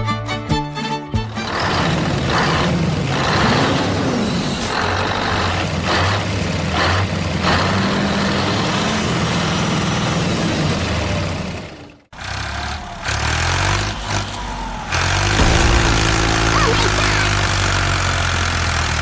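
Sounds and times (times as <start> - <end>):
tractor engine running: 0.5 - 19.0.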